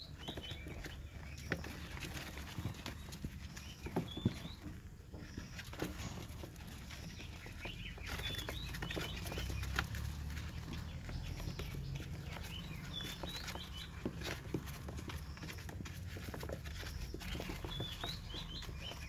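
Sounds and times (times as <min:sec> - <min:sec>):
rabbits scrabbling on plastic: 0:00.0 - 0:19.0.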